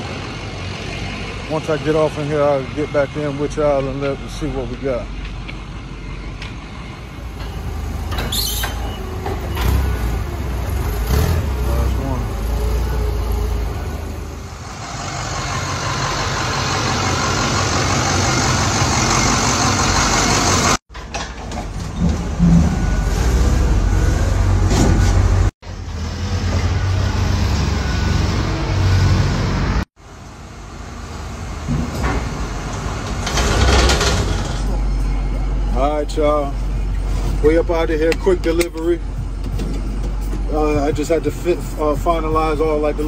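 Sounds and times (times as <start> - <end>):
truck and forklift engines running: 0.0 - 43.0.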